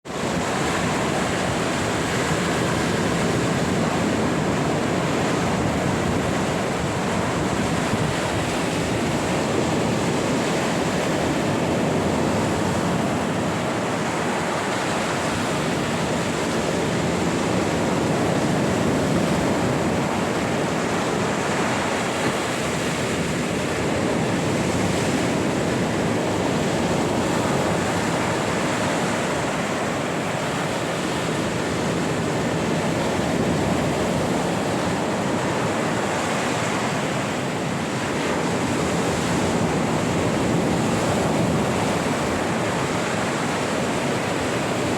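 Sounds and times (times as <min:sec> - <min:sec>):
surf washing onto shore: 0:00.0 - 0:44.9.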